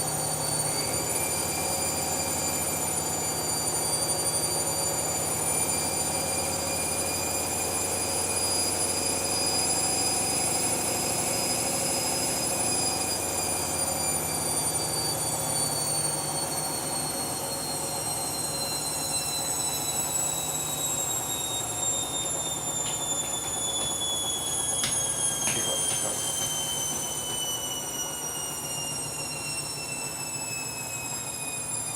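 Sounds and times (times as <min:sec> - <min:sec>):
washing machine spinning: 0:00.0 - 0:31.9.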